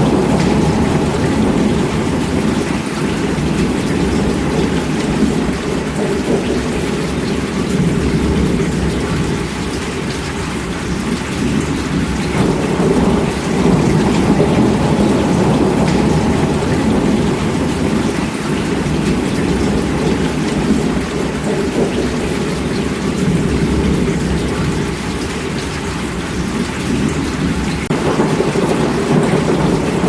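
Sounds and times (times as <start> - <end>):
heavy rain: 0.0 - 30.0
rolling thunder: 0.0 - 30.0.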